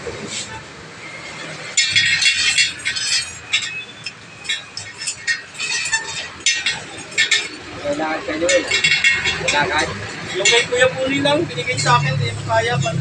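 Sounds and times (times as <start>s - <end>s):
metal spokes clinking: 1.0s - 13.0s.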